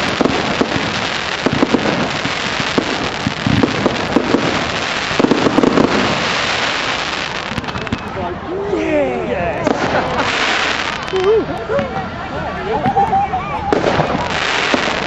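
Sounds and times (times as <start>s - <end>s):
fireworks crackling and popping: 0.0s - 8.4s, 9.6s - 12.0s, 12.9s - 15.0s.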